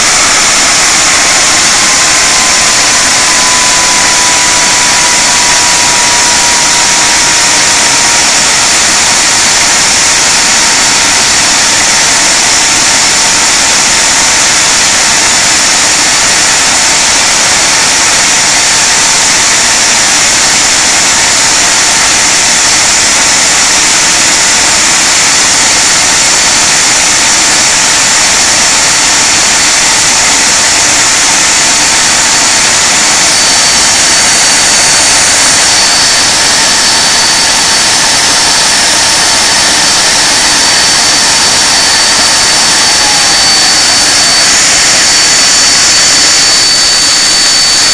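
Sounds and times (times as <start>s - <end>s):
high-pitched whine: 0.0s - 47.9s
jet engine roar: 0.0s - 47.9s.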